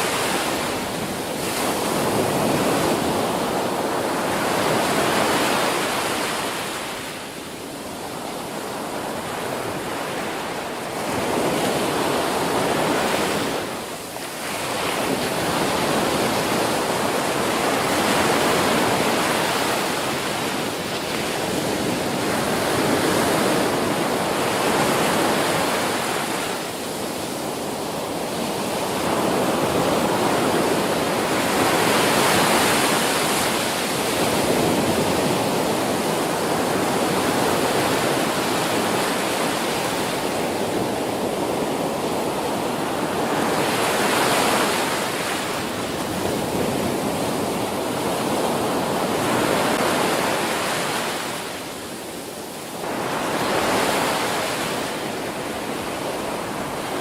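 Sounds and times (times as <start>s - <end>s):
ocean waves breaking on a beach: 0.0s - 57.0s.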